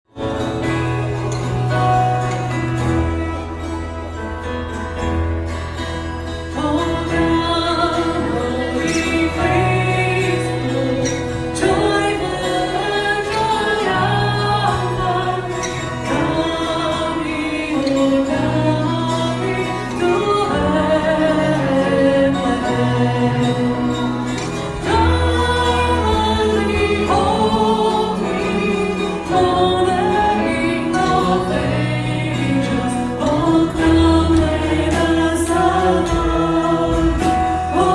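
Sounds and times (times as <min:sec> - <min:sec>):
instrumental accompaniment with bass: 0:00.1 - 0:37.9
group of people singing: 0:06.5 - 0:37.9.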